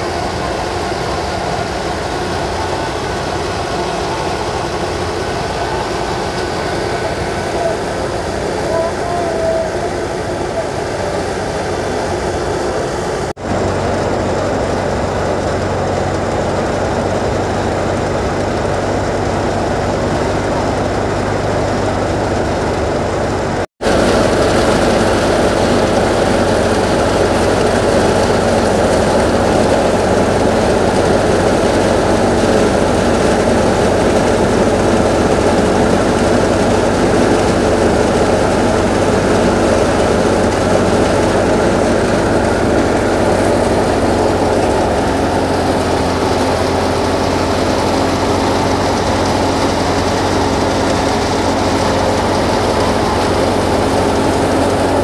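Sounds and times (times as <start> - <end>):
threshing drum spinning: 0.0 - 55.0
tractor engine humming: 0.0 - 55.0.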